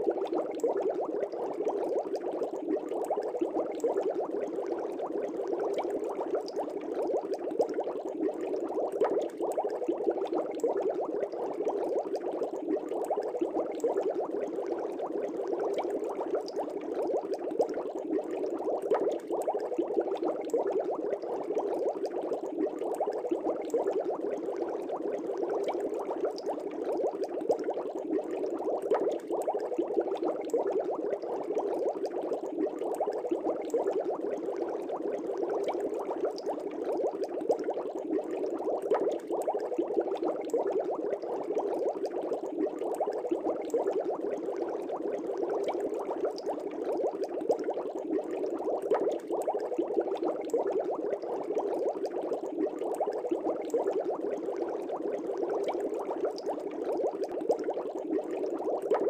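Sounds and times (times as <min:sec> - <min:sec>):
aquarium air bubbling: 0:00.0 - 0:59.0.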